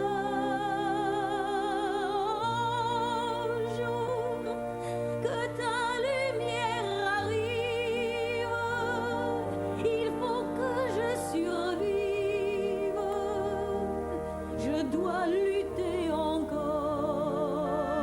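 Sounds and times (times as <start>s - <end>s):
stage musical singing with vibrato: 0.0s - 18.0s.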